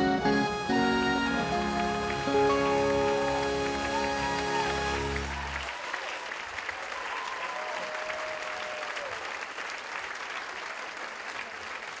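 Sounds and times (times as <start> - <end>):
audience applauding: 0.0 - 12.0
crowd cheering call: 0.0 - 12.0.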